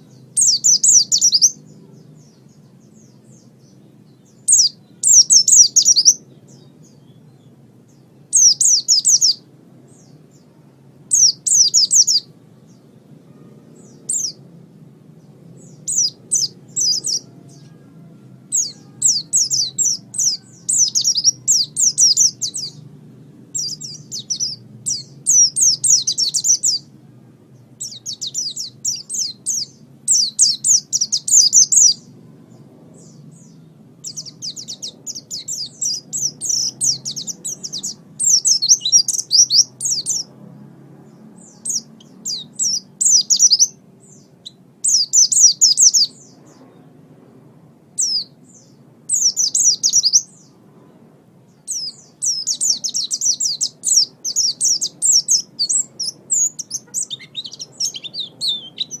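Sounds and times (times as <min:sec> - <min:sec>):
bird twittering song: 0:00.0 - 0:14.5, 0:15.1 - 0:26.9, 0:27.6 - 0:40.4, 0:41.0 - 0:47.0, 0:47.9 - 0:59.0.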